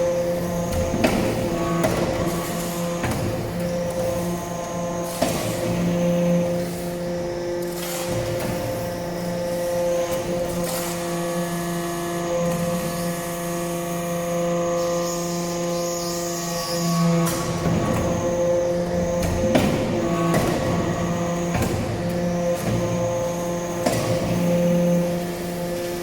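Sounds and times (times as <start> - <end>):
hydraulic press humming: 0.0 - 13.8, 17.2 - 26.0.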